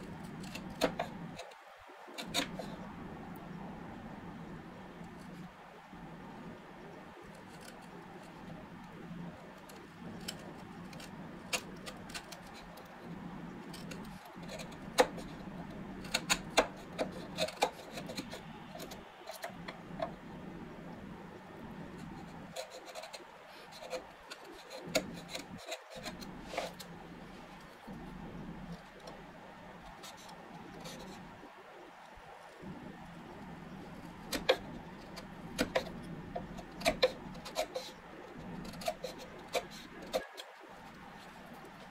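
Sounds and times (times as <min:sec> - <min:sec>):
chisel scraping wood: 0:00.0 - 0:01.6, 0:02.2 - 0:03.0, 0:07.3 - 0:08.9, 0:09.6 - 0:20.2, 0:21.6 - 0:31.3, 0:32.6 - 0:41.9.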